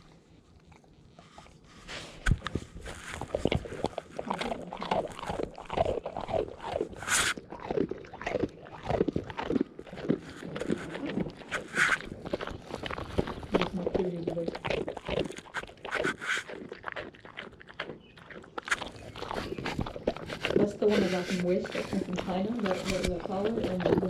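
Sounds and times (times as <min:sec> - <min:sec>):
dog crunching a biscuit: 0:00.0 - 0:24.0.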